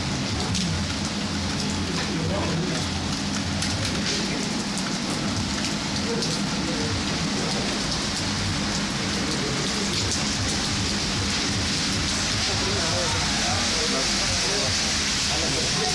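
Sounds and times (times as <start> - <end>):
rain splashing on wet pavement: 0.0 - 15.9.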